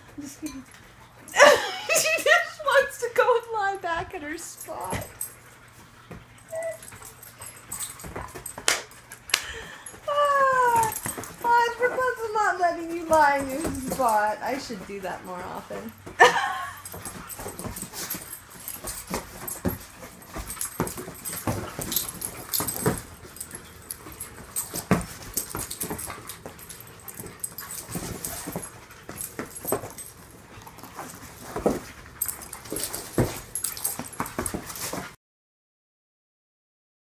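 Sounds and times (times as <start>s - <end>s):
dogs scuffling on foam mats: 1.9s - 35.2s.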